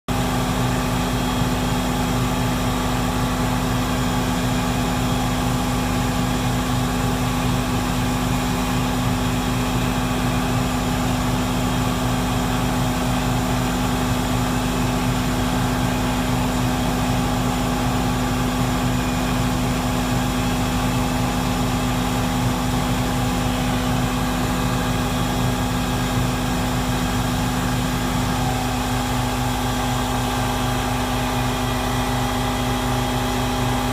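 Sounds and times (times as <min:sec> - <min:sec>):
truck machinery droning hum: 0:00.1 - 0:33.9.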